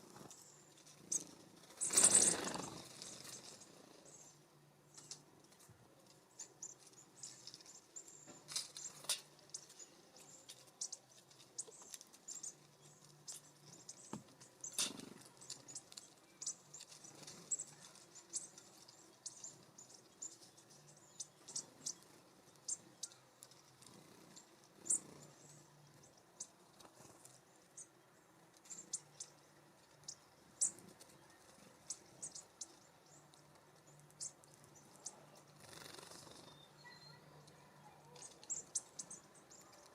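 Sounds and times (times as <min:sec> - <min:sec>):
songbirds chipping: 0:00.0 - 0:39.9.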